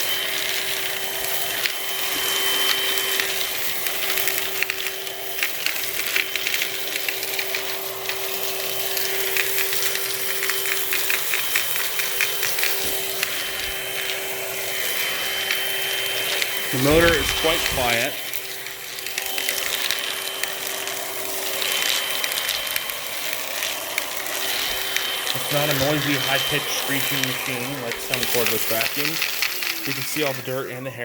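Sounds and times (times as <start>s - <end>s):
stick vacuum motor hum: 0.0s - 30.9s
clicks and rattles: 0.5s - 30.6s.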